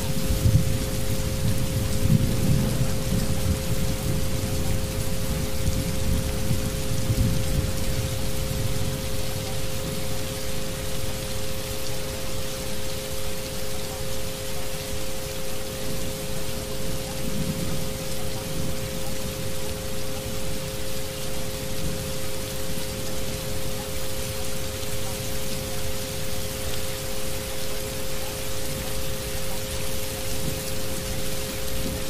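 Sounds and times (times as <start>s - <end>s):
rain hissing: 0.0s - 32.0s.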